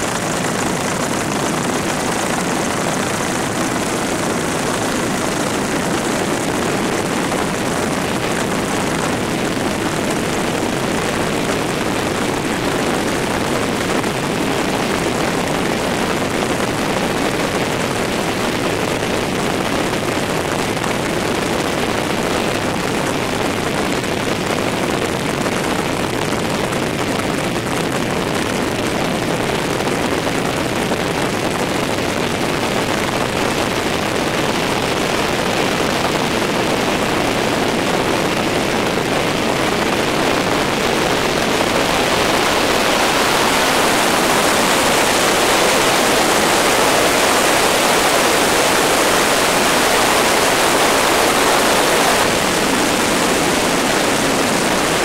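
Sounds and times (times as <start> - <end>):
helicopter cabin rushing noise: 0.0 - 55.0.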